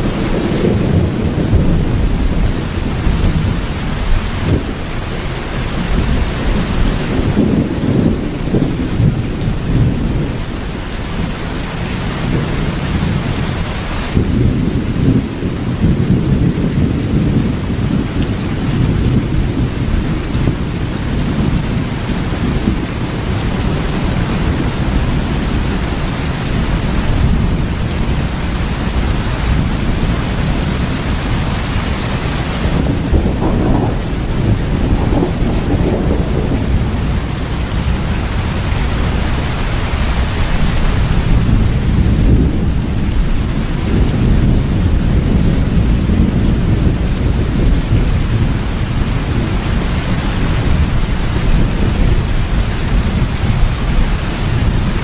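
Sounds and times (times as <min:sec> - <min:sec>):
deep rumble: 0:00.0 - 0:11.7, 0:12.4 - 0:55.0
heavy rain: 0:00.0 - 0:55.0.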